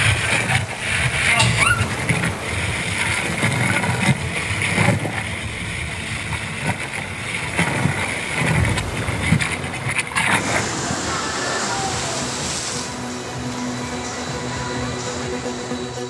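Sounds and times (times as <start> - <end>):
water rushing and splashing: 0.0 - 15.3.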